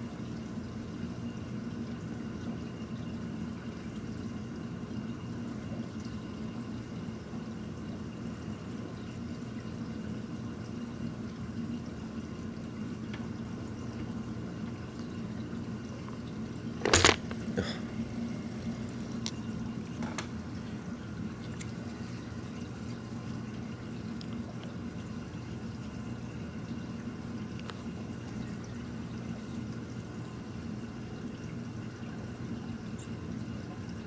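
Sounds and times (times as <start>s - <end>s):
aquarium water circulating: 0.0s - 34.0s
low even hum: 0.0s - 34.0s.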